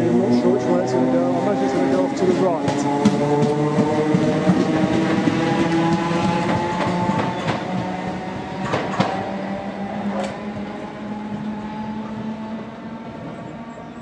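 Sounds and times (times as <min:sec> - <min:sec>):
train wheels clacking on track: 0:00.0 - 0:13.7
electric train motors humming: 0:00.0 - 0:14.0.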